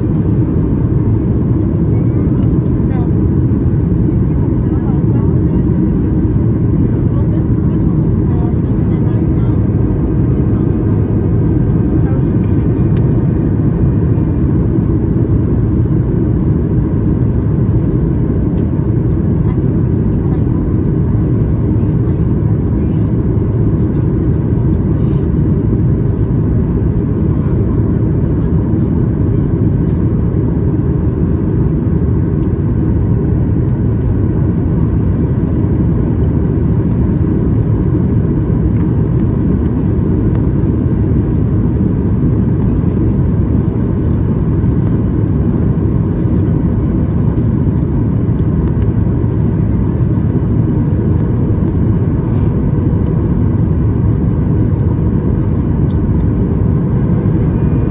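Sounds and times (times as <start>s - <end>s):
airplane cabin rumble: 0.0s - 57.9s.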